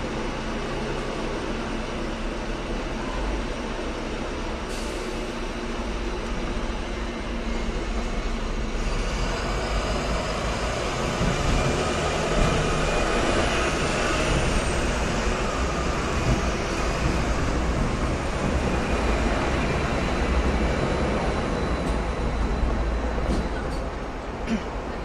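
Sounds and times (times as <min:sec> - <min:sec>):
tram rolling rumble on rails: 0:00.0 - 0:25.0.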